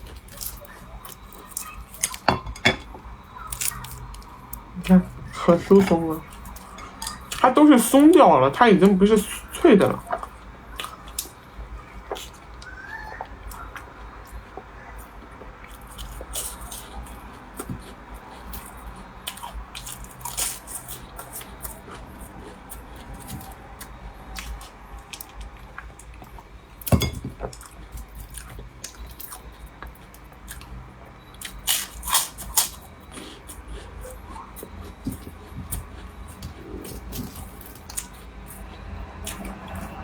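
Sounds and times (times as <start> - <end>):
chewing pastry: 0.0 - 40.0.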